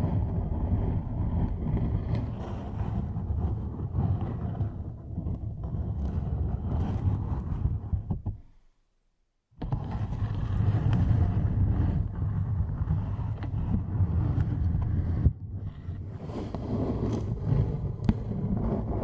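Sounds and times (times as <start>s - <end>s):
close low rubbing and rumbling: 0.0s - 8.4s, 9.6s - 19.0s.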